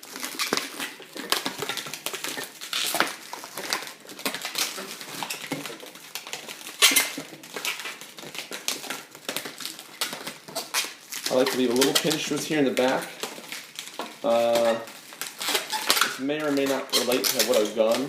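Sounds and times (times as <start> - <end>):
balloons squeaking and rubbing: 0.0 - 18.0.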